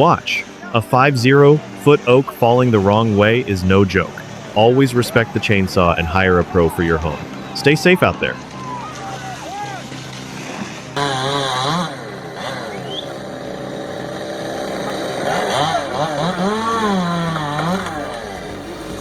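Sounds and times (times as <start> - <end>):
chainsaw engine revving: 0.0 - 19.0.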